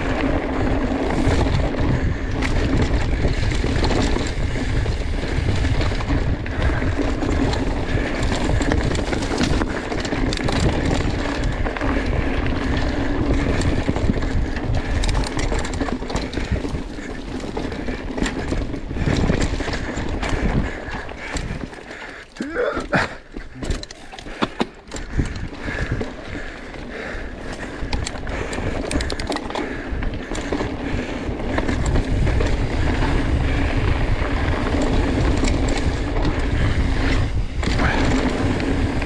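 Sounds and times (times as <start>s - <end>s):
bike clicking and rattling: 0.0s - 39.0s
bike tyres rumbling on dirt: 0.0s - 39.0s.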